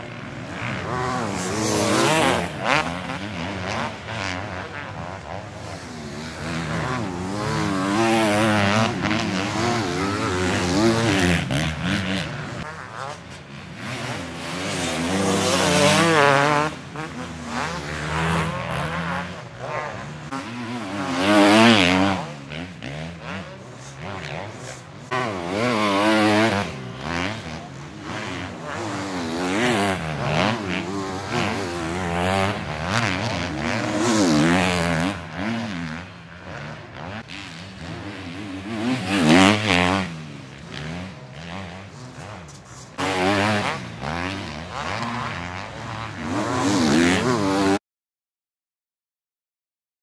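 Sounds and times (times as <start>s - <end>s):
motocross bikes revving: 0.0s - 47.8s.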